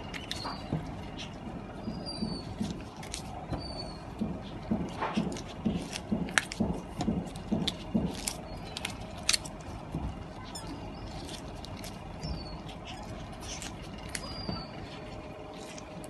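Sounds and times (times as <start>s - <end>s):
soft low thumps: 0.0s - 13.2s
wet crunching and squelching fish: 0.0s - 16.0s.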